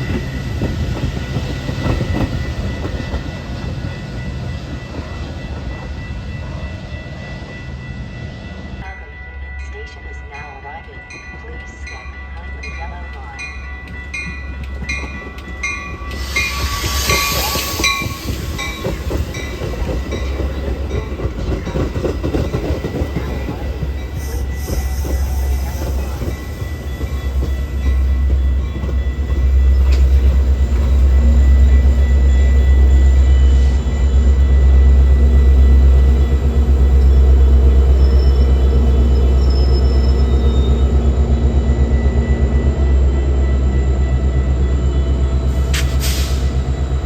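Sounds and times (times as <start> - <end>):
train rumbling and rattling: 0.0 - 47.0.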